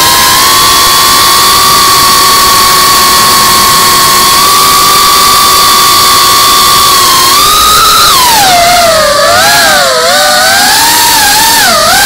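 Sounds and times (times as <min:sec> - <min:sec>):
wind rush: 0:00.0 - 0:10.1
drone motors whining: 0:00.0 - 0:12.0.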